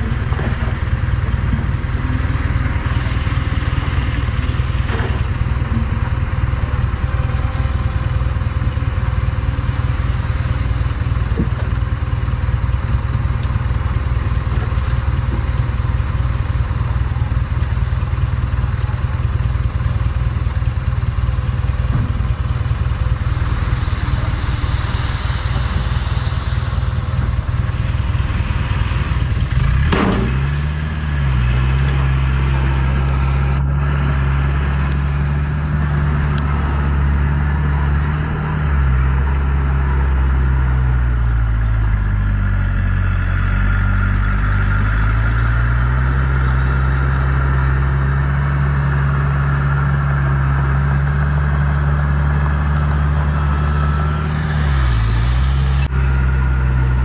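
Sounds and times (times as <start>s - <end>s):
heavy diesel machinery engine: 0.0s - 57.0s.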